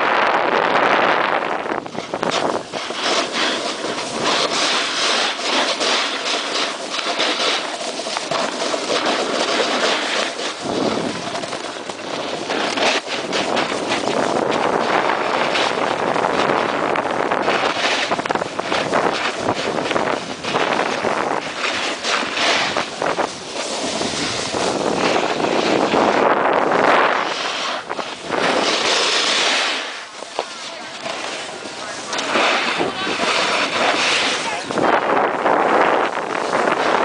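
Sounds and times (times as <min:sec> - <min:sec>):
snowboard scraping over snow: 0:00.0 - 0:37.0
wind rushing over microphone: 0:00.0 - 0:37.0.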